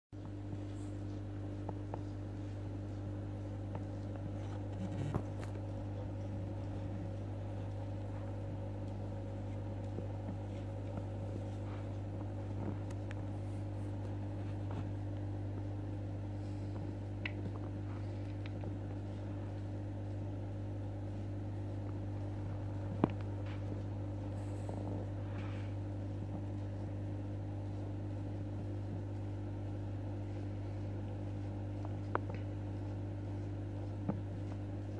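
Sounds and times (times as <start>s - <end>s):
low electrical hum: 0.2s - 34.9s.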